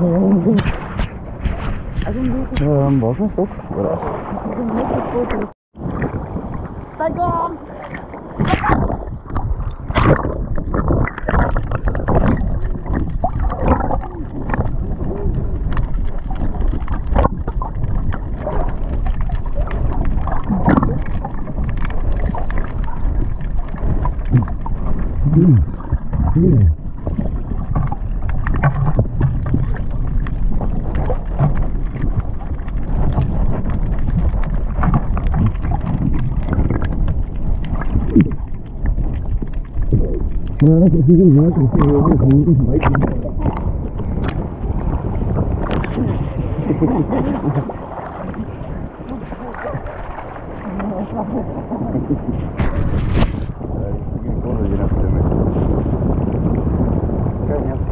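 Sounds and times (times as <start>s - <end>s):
seawater sloshing and splashing: 0.0s - 53.6s
wind buffeting microphone: 0.0s - 57.9s.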